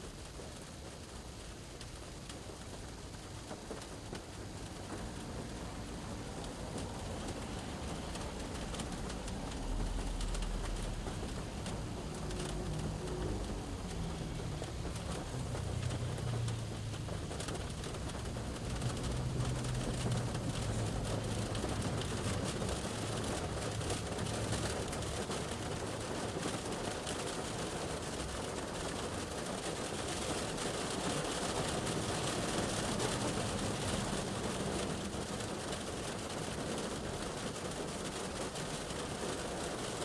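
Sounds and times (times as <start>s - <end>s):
rain on a car roof: 0.0s - 40.0s
vehicles passing: 3.3s - 26.8s, 27.4s - 39.4s.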